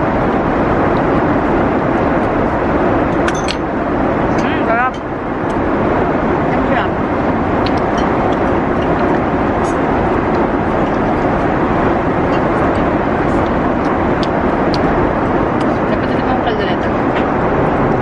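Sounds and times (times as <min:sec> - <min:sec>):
airliner cabin engine rush: 0:00.0 - 0:18.0.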